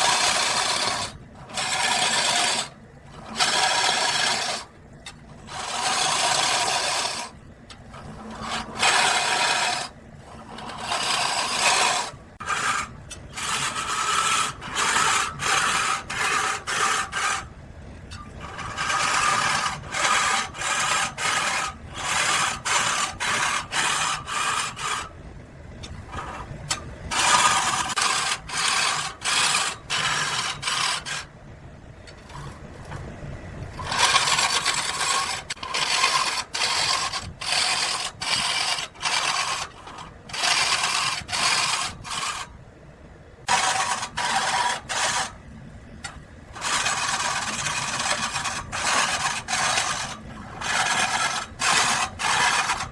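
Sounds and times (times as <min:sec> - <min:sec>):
tool rasping wood: 0:00.0 - 0:04.7, 0:05.4 - 0:07.4, 0:08.0 - 0:17.5, 0:18.4 - 0:25.1, 0:26.1 - 0:31.3, 0:33.7 - 0:42.5, 0:43.5 - 0:45.4, 0:46.6 - 0:52.9.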